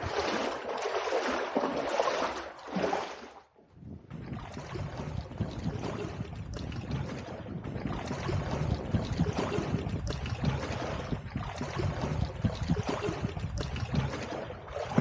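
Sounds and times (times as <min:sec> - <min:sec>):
water splashing while wading: 0:00.0 - 0:15.0.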